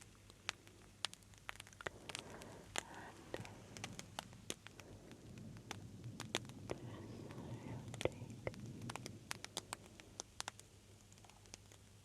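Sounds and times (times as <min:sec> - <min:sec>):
sharp clicks and crackles: 0:00.0 - 0:12.0
faint breathy sounds: 0:01.8 - 0:11.5.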